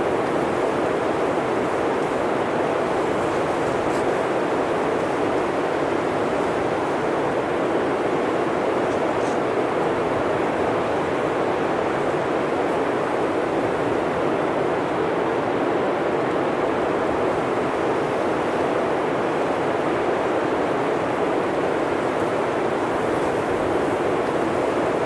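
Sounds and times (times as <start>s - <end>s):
blizzard wind through forest: 0.0s - 25.0s.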